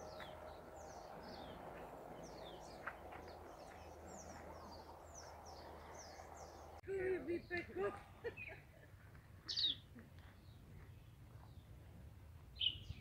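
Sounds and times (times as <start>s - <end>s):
small birds chirping: 0.0s - 8.6s, 9.4s - 11.8s, 12.5s - 13.0s.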